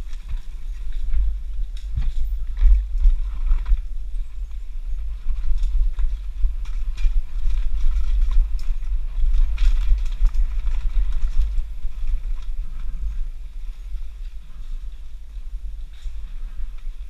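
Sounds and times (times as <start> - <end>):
mountain bike rattling over rocks: 0.0 - 17.0
wind buffeting microphone: 0.0 - 17.0.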